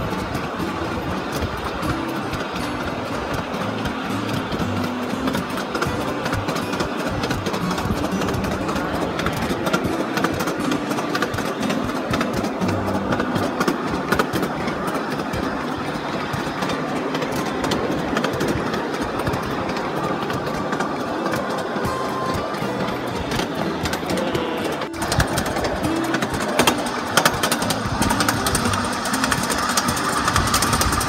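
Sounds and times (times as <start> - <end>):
clicks and rattles of train cars: 0.0 - 31.0
miniature train rumbling on track: 0.0 - 31.0.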